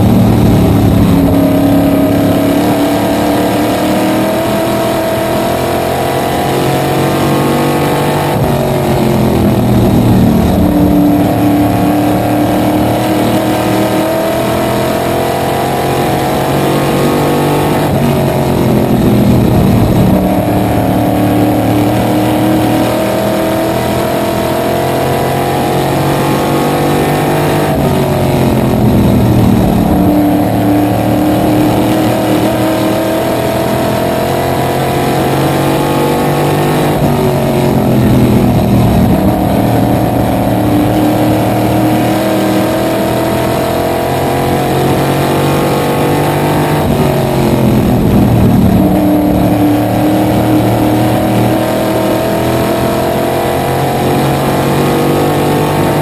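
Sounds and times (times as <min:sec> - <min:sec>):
racing engine revving: 0:00.0 - 0:56.0.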